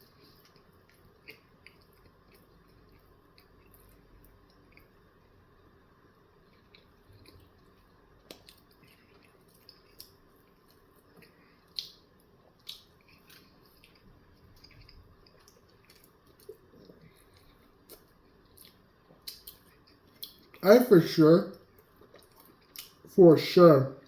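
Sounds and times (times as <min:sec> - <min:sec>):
chewing mouth clicks and smacks: 0:00.1 - 0:05.0, 0:06.4 - 0:20.6, 0:21.5 - 0:23.1.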